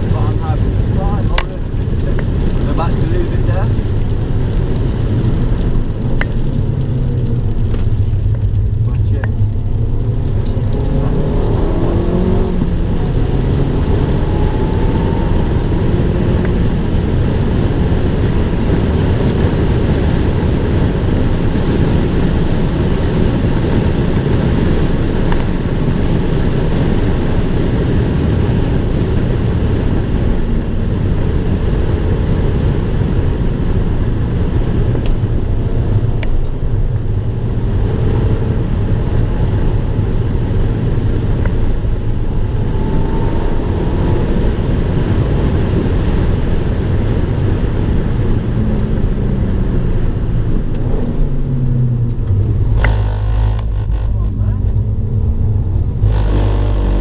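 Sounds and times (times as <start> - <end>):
car engine at speed: 0.0 - 57.0
road and tyre noise: 0.0 - 57.0.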